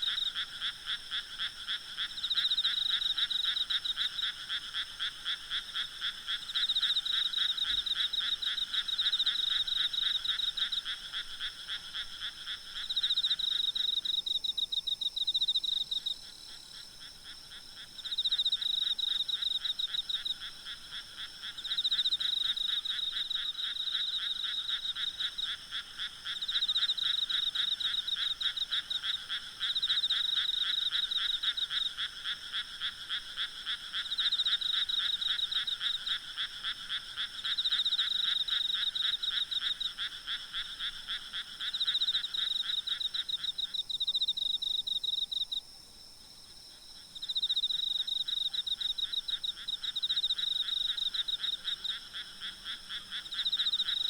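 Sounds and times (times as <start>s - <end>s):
insects calling: 0.0s - 45.6s, 46.5s - 54.0s
frogs croaking: 0.0s - 54.0s.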